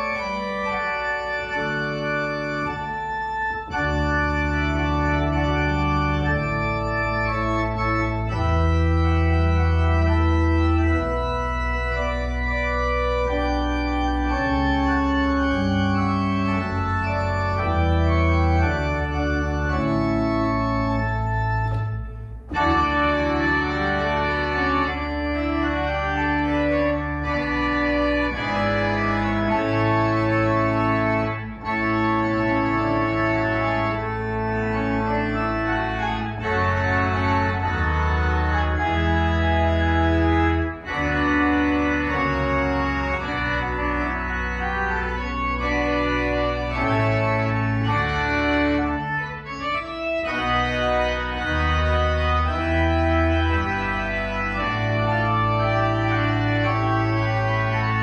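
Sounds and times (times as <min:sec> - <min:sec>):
electronic organ chords: 0:00.0 - 0:58.0.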